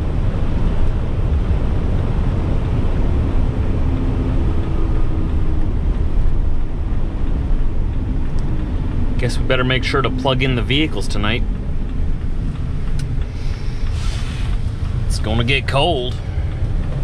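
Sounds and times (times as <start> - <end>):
faint tire hum: 0.0 - 17.0
road noise inside vehicle: 0.0 - 17.0.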